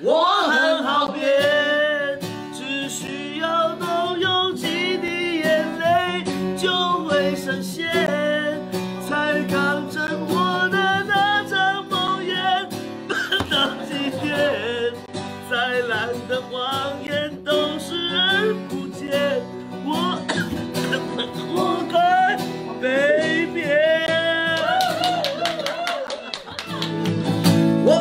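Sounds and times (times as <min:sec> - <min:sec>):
man singing pop song: 0:00.0 - 0:25.2, 0:27.8 - 0:28.0
acoustic guitar: 0:00.0 - 0:28.0.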